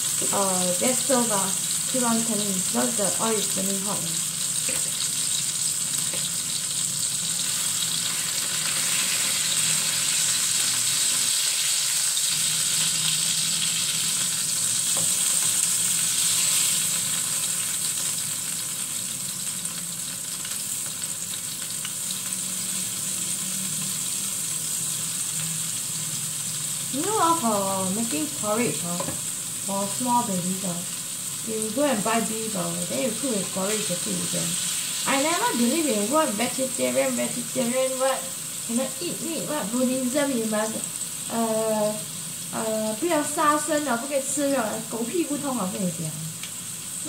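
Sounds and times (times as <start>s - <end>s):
meat sizzling in frying pan: 0.0s - 47.0s.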